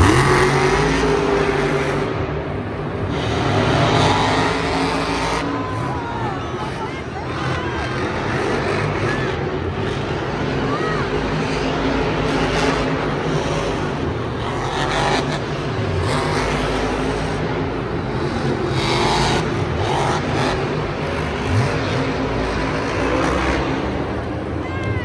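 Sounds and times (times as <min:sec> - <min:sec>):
monster truck engine droning: 0:00.0 - 0:25.0.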